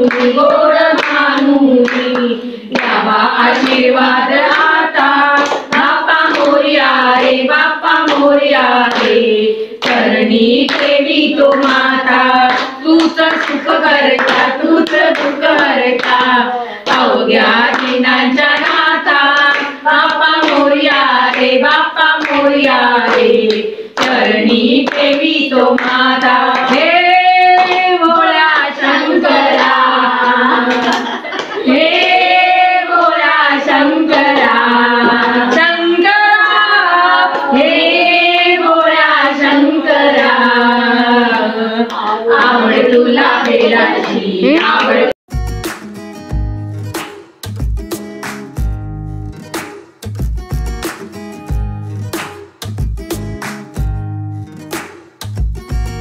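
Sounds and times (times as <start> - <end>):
hand clapping: 0.0 - 9.2, 9.8 - 37.8, 41.9 - 48.8, 49.4 - 56.0
women singing devotional song: 0.0 - 45.2.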